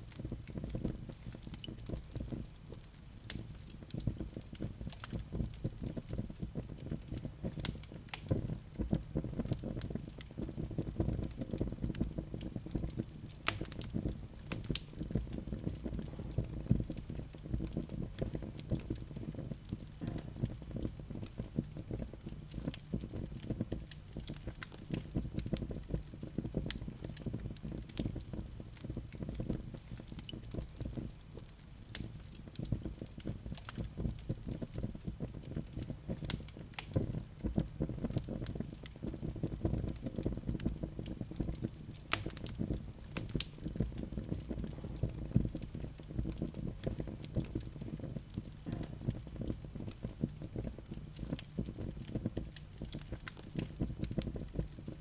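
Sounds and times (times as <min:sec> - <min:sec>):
logs crackling and popping: 0:00.0 - 0:55.0
wood fire burning: 0:00.0 - 0:55.0.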